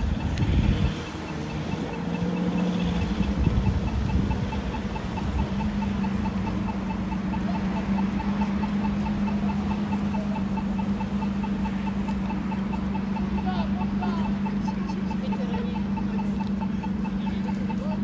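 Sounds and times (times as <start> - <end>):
crossing signal ticking: 0.0 - 18.0.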